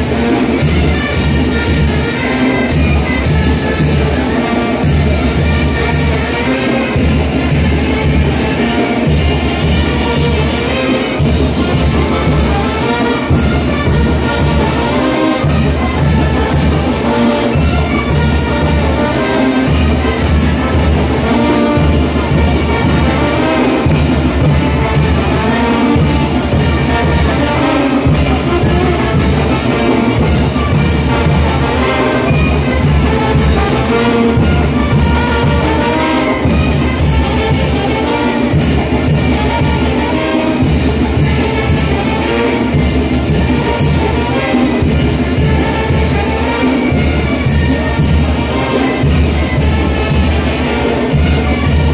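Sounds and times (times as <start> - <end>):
trumpets and trombones: 0.0 - 51.9.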